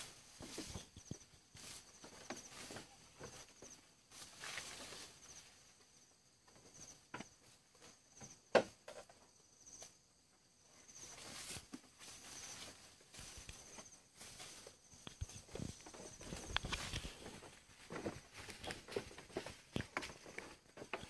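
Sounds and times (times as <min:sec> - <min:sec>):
faint insect chirping trills: 0:00.0 - 0:21.0
rustles and crackles in vegetation: 0:00.0 - 0:21.0.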